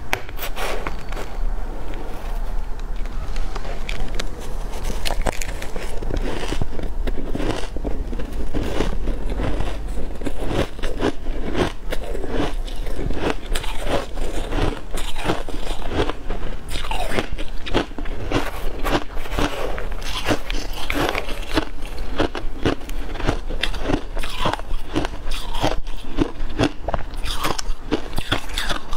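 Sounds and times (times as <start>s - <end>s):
crunching and chewing ice: 0.0s - 28.9s.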